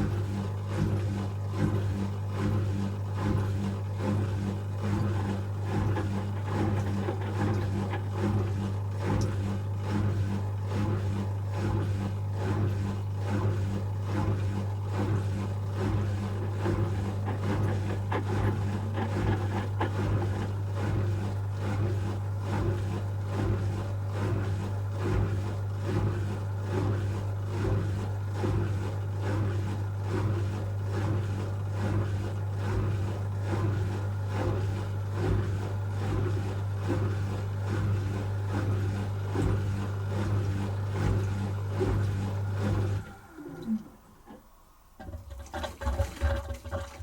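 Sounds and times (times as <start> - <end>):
washing machine humming: 0.0 - 47.0.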